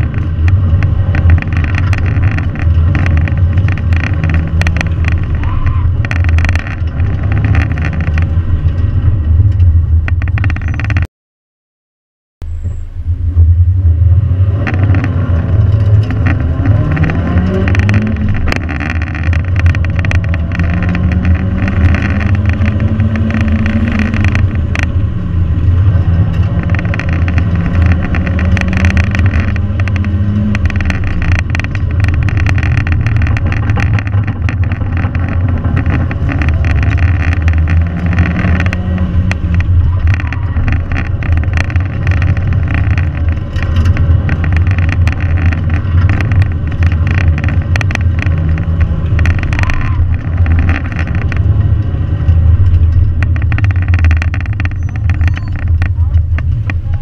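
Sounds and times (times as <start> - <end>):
car engine running hard: 0.0 - 11.1, 12.5 - 57.0.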